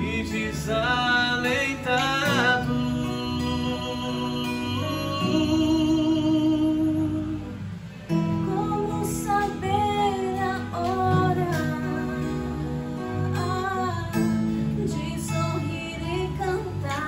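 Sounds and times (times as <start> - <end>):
woman singing a slow hymn: 0.0 - 7.4, 8.4 - 17.0
acoustic guitar strumming: 0.0 - 17.0.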